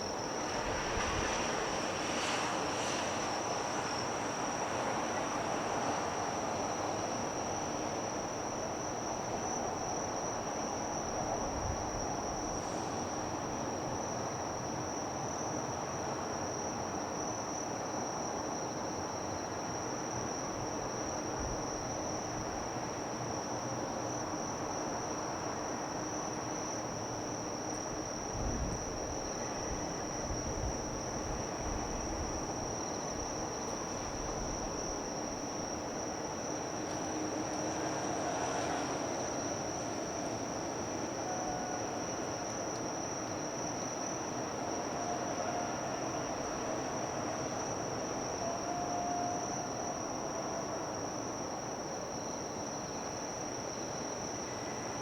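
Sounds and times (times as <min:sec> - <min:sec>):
harbour and city noise: 0:00.0 - 0:55.0
insects trilling: 0:00.0 - 0:55.0.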